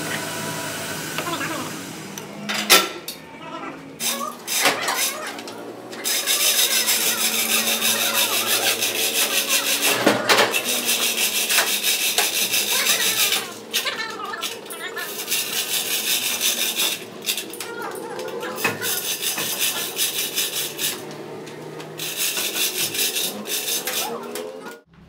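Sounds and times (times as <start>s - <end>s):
fast metallic rasping clatter: 4.0s - 24.8s.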